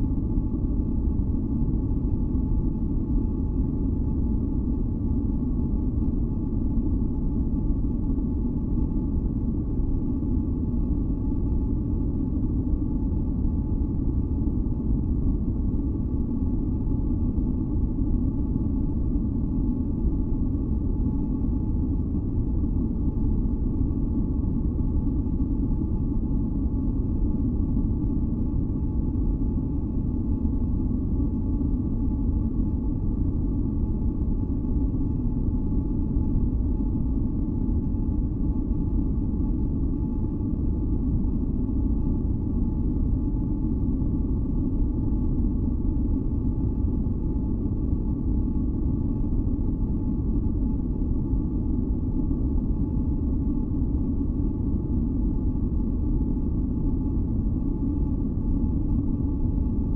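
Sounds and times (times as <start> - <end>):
deep ambient noise drone: 0.0 - 59.9.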